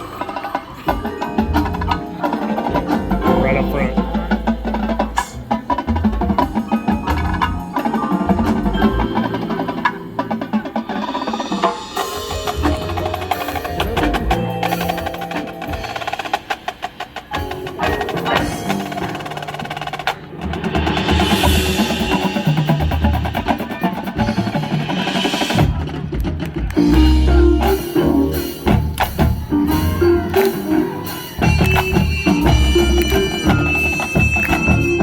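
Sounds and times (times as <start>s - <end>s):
marching band playing: 0.0s - 35.0s
percussion strikes: 0.0s - 35.0s.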